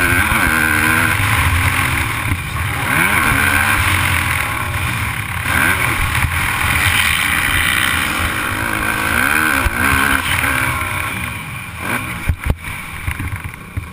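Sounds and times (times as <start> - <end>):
dirt bike engine revving: 0.0 - 13.9.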